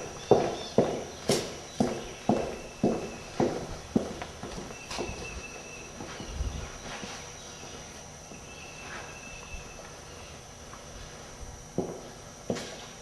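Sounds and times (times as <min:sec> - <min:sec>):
footsteps on concrete: 0:00.0 - 0:13.0.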